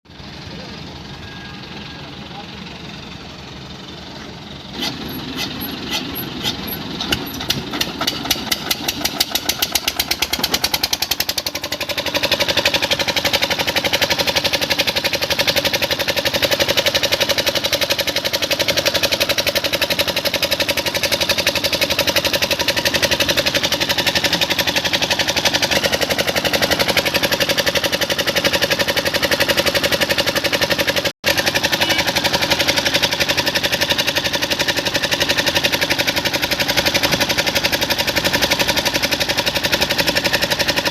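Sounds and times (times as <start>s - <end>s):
diesel engine knocking: 0.1s - 40.9s.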